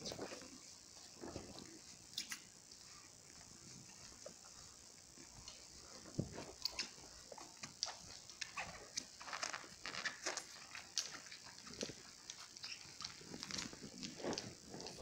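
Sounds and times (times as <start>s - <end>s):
puppies scuffling: 0.0s - 15.0s.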